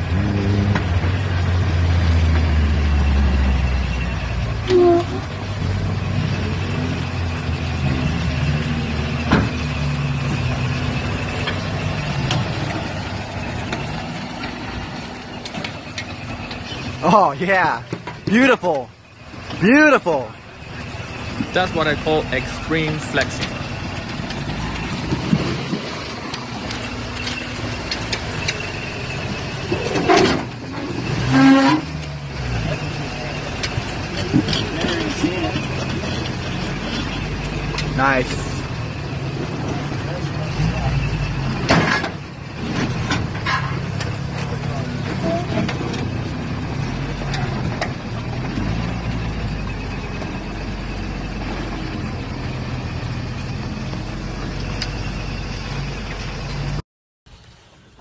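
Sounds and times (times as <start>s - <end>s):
truck engine at low revs: 0.0s - 58.0s.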